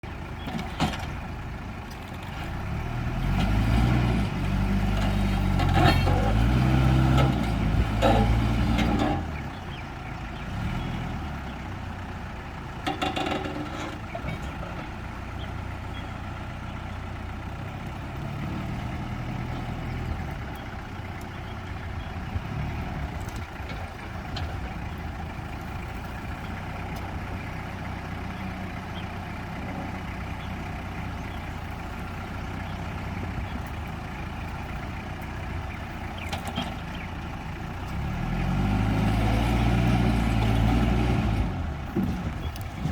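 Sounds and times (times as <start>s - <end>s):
truck engine revving: 1.8s - 9.8s, 10.4s - 12.0s, 17.5s - 42.9s.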